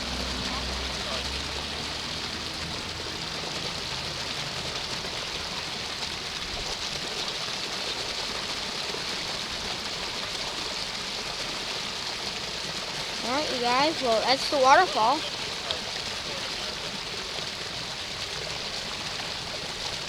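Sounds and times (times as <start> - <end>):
small waterfall rushing into pond: 0.0 - 20.0.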